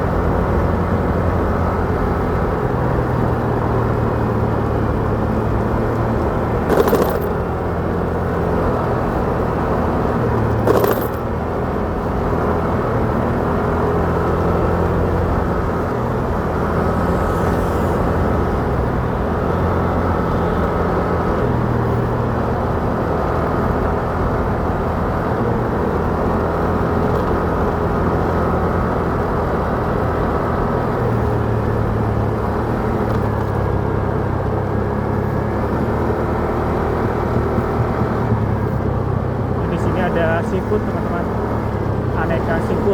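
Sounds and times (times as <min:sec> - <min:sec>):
motorcycle engine drone: 0:00.0 - 0:42.9
road and wind noise: 0:00.0 - 0:42.9.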